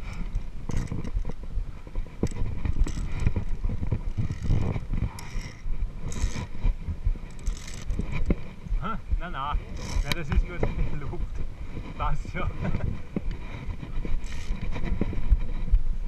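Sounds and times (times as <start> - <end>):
carabiners clicking and clinking: 0.0 - 8.6, 9.6 - 11.0, 11.8 - 15.6
gloved hands sliding along cable: 0.0 - 8.8, 9.5 - 15.8
wind rumble on microphone: 0.0 - 16.0.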